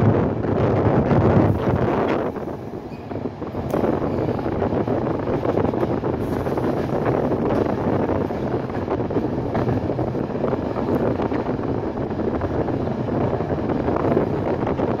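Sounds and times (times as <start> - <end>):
train wheels rumbling on rails: 0.0 - 15.0
wind noise: 0.0 - 15.0.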